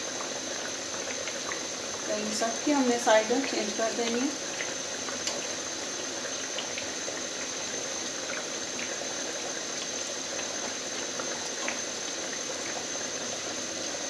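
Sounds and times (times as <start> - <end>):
hot oil sizzling and bubbling: 0.0 - 14.0.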